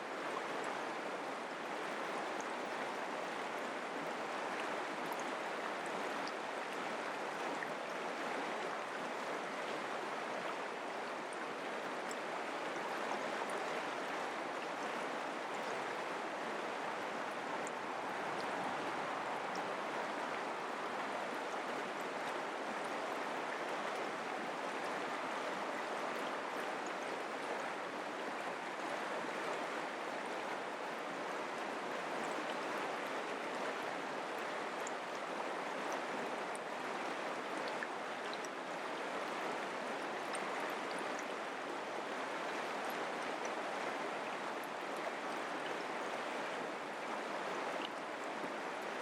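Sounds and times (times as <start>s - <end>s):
creek water flowing: 0.0s - 49.0s.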